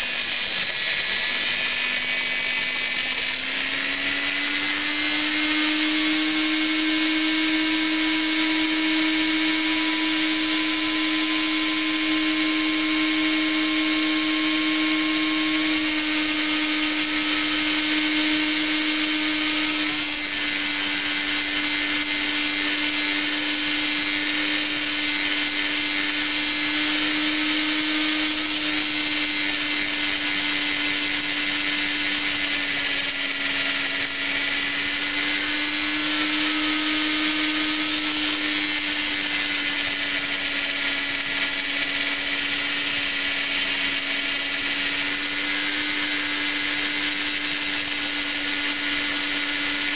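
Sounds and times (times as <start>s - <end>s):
rotary tool grinding metal pipe: 0.0s - 49.9s.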